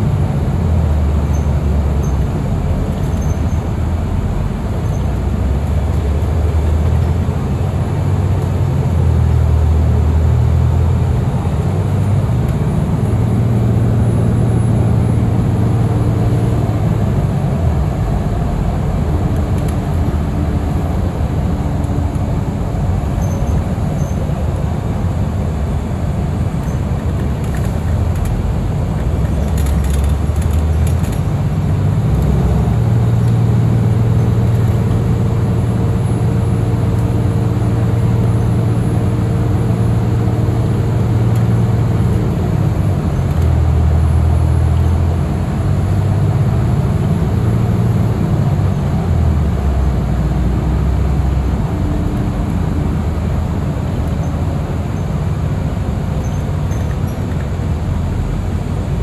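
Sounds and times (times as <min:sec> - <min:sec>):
bus engine running: 0:00.0 - 0:59.0
road and tyre noise: 0:00.0 - 0:59.0.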